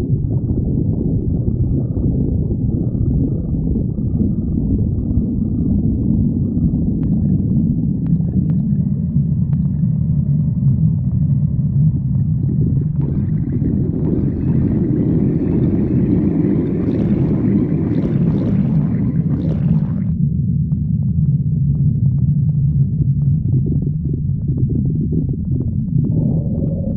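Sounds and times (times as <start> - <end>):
stomach gurgling growl: 0.0 - 26.9
stomach rumbling: 0.0 - 26.9.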